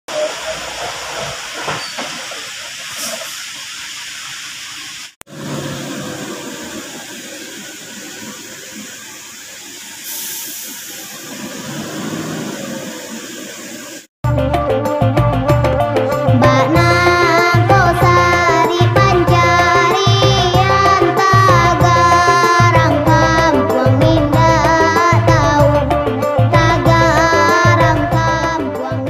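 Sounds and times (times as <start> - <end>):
diesel truck engine rumbling: 5.3 - 28.7.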